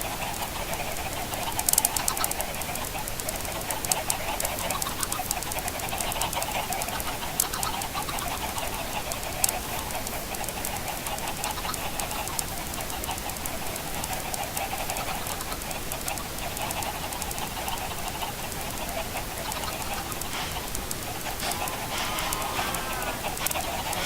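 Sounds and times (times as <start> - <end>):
chickens clucking: 0.0 - 24.0
sharp ticks: 0.0 - 24.0.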